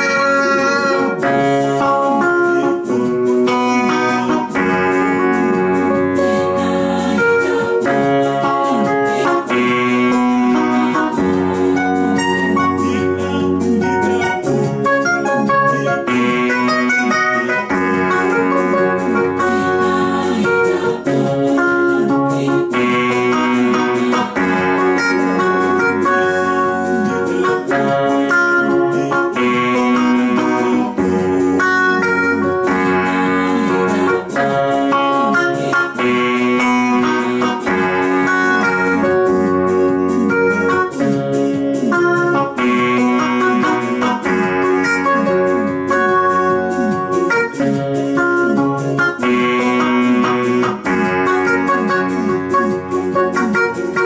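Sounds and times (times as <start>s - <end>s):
electronic keyboard organ chords: 0.0s - 54.0s
steady beat: 0.0s - 54.0s.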